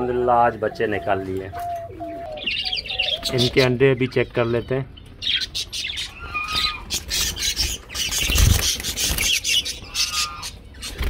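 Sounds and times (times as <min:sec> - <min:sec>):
bird chirps: 0:00.5 - 0:11.0.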